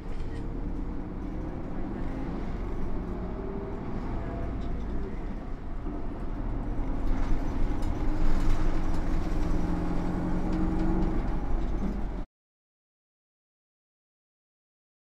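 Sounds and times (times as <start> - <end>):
bus engine hum: 0.0 - 12.3
road noise rumble: 0.0 - 12.3.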